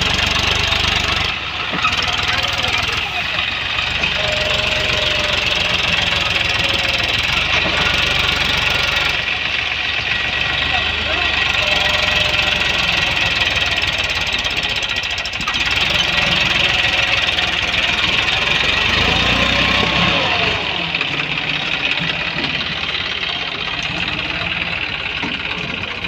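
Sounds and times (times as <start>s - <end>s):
tractor diesel engine knocking: 0.0s - 26.0s.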